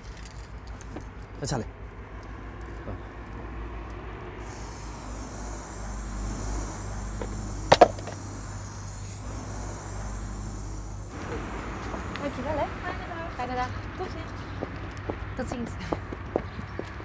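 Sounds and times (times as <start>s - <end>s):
low background hum: 0.0s - 15.7s.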